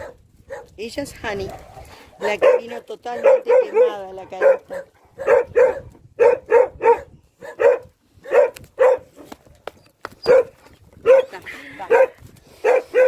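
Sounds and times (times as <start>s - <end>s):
dogs barking: 0.0s - 0.7s, 1.4s - 9.2s, 10.2s - 13.0s.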